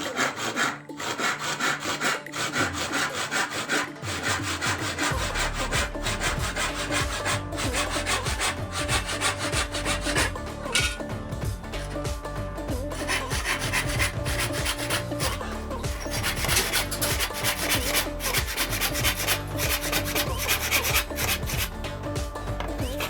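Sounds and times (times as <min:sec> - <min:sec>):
wood being sawn by hand: 0:00.0 - 0:23.0.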